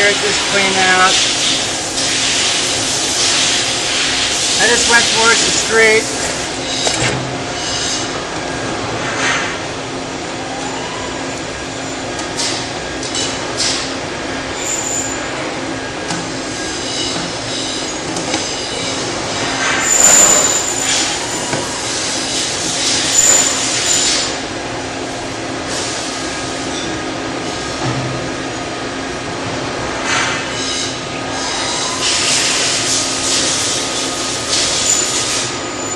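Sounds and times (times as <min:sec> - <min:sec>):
mechanical hum: 0:00.0 - 0:35.9.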